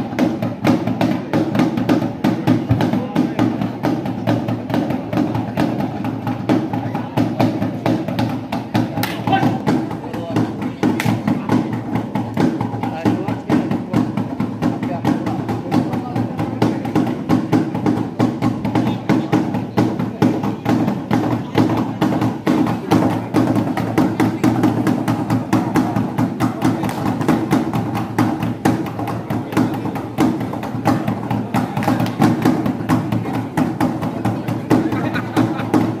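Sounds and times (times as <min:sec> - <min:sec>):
hand drums in fast rhythm: 0:00.0 - 0:36.0.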